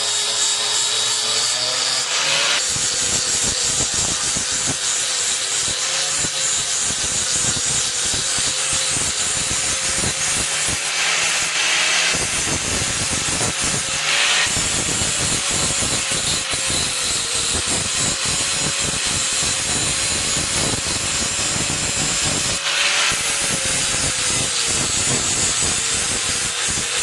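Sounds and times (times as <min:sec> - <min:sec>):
electric grinder motor whine: 0:00.0 - 0:27.0
steel grinding scrape: 0:00.0 - 0:27.0.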